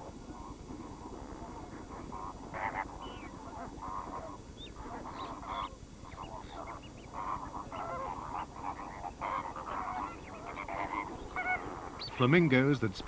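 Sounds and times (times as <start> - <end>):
flamingos honking and chattering: 0.0 - 13.0.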